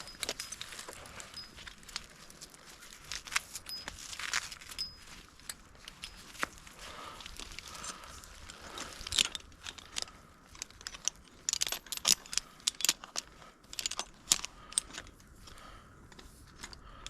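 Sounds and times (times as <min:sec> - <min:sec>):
climbing gear clinking: 0:00.0 - 0:17.0.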